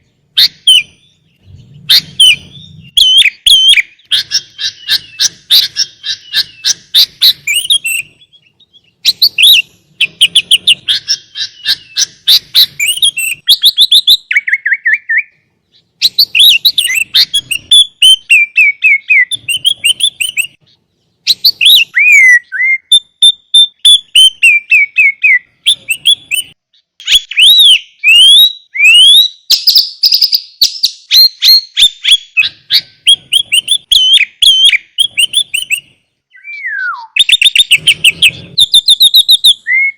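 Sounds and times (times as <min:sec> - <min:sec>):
bulbul singing trills and whistles: 0:00.0 - 0:39.9.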